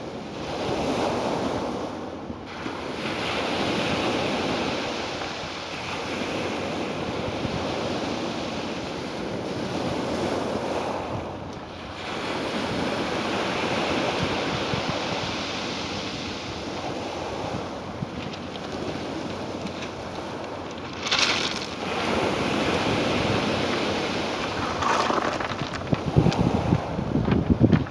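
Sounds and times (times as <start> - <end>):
ocean waves washing: 2.5 - 27.9.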